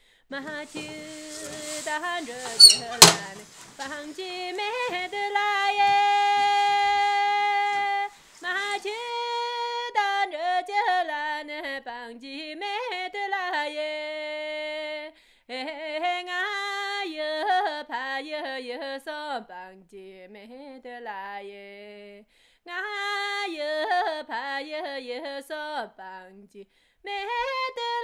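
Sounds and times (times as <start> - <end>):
woman singing unaccompanied: 0.3 - 28.0.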